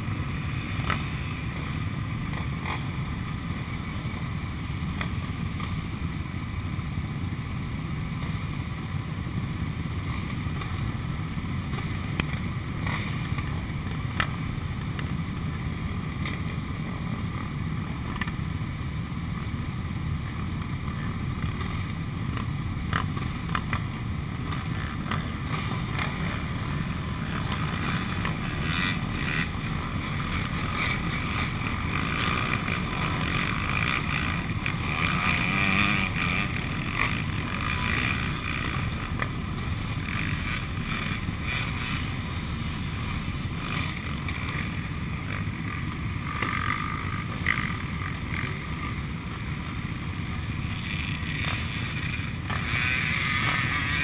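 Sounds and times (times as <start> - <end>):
quad bike engines idling: 0.0 - 54.0.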